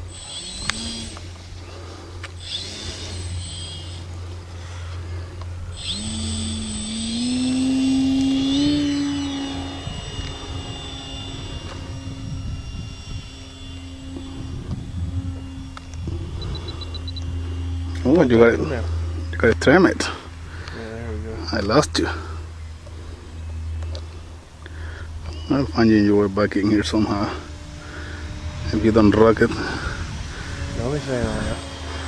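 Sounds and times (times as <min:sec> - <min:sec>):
model airplane motor and propeller: 0:00.0 - 0:32.0.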